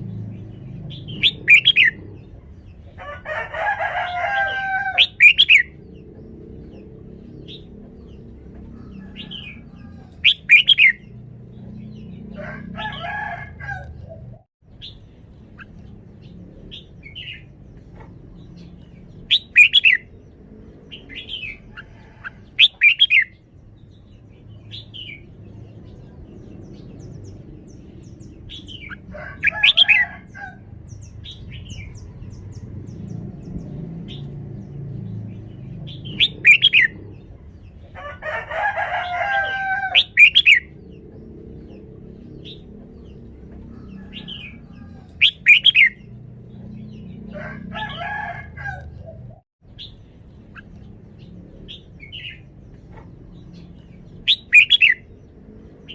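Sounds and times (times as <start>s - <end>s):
bird singing bright phrases: 0.0s - 3.0s, 3.6s - 13.3s, 14.1s - 37.9s, 39.9s - 47.3s, 49.0s - 55.9s.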